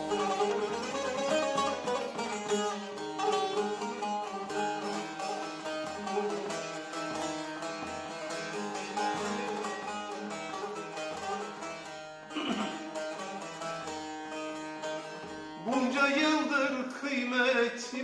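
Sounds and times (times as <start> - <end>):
plucked long-necked lute melody: 0.0 - 17.9.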